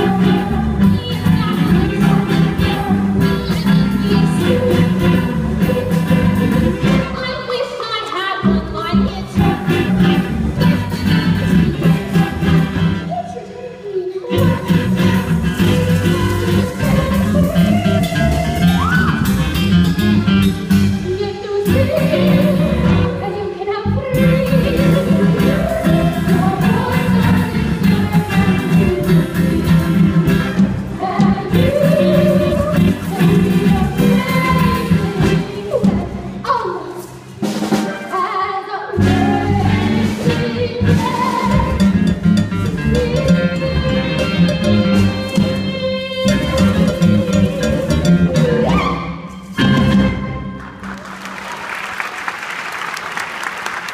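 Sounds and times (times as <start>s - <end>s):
live pit band playing: 0.0s - 7.8s, 8.4s - 13.6s, 14.3s - 23.4s, 24.0s - 38.4s, 39.0s - 51.5s
woman singing: 0.0s - 19.3s, 20.9s - 37.2s, 37.8s - 42.0s, 42.8s - 49.3s.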